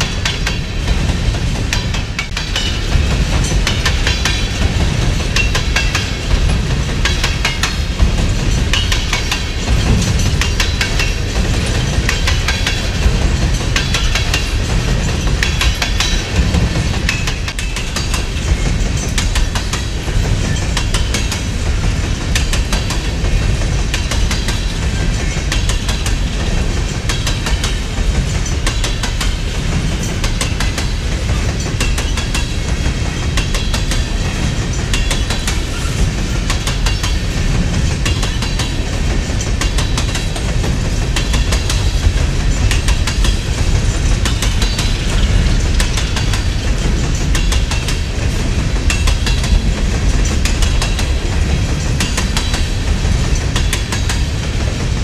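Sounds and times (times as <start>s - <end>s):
steel wheels rumbling on rail: 0.0s - 55.0s
wheels clacking over rail joints: 0.0s - 55.0s.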